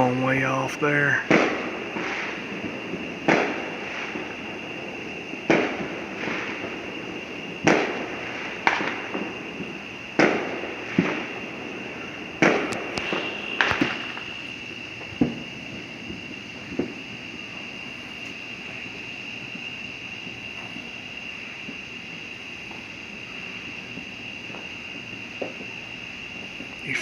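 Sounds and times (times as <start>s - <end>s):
fireworks exploding: 0.0s - 27.0s.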